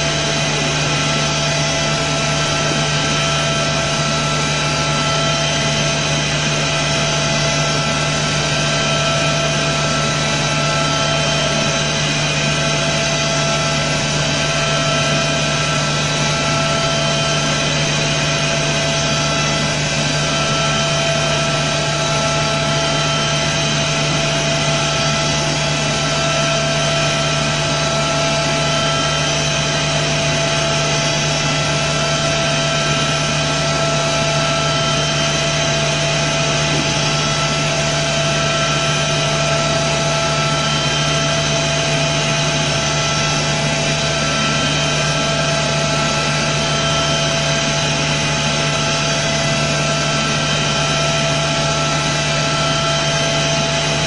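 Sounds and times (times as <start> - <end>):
milling machine whine: 0.0 - 54.0
steady mechanical noise: 0.0 - 54.0.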